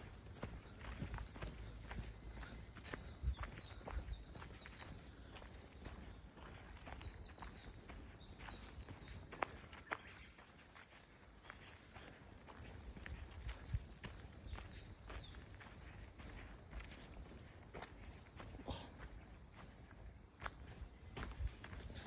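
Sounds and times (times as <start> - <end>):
footsteps crunching on trail: 0.0 - 22.0
insect chorus drone: 0.0 - 22.0.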